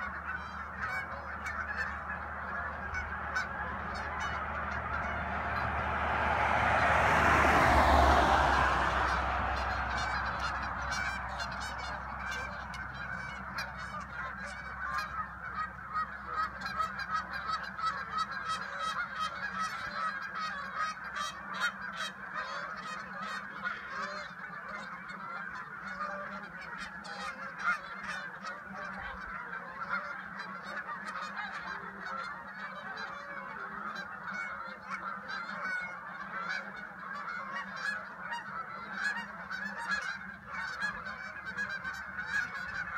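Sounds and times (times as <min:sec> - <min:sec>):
geese honking in flight: 0:00.0 - 0:42.9
vehicle passing on road: 0:00.0 - 0:42.9.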